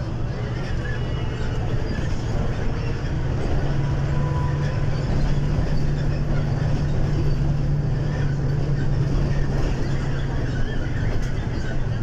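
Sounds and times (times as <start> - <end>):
bus engine drone: 0.0 - 12.0
road noise and rattle: 0.0 - 12.0.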